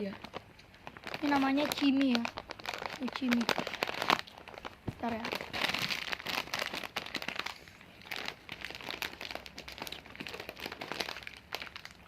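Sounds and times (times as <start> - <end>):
plastic snack packet crinkling: 0.0 - 12.0.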